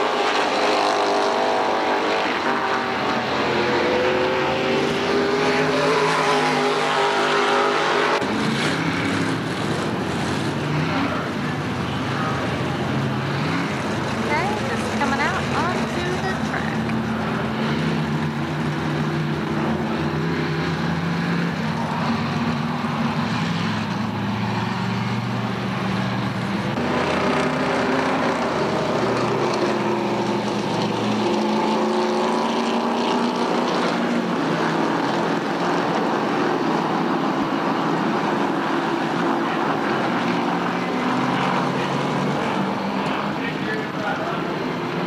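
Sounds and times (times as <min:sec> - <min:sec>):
racing car engines: 0:00.0 - 0:45.0.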